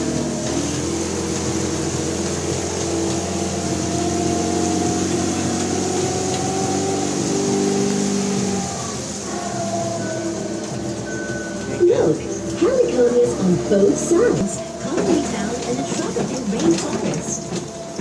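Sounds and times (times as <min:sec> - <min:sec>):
road noise: 0:00.0 - 0:18.0
tram engine humming: 0:00.0 - 0:18.0.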